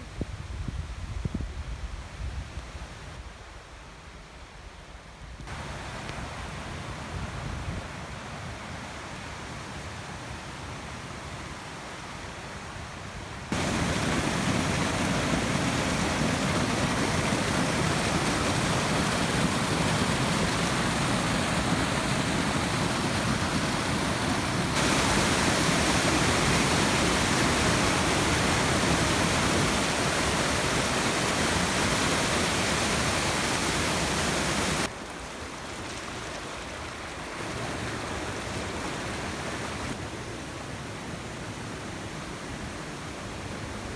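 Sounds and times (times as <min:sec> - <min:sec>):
rushing wind and water: 0:00.0 - 0:04.8, 0:05.4 - 0:43.9.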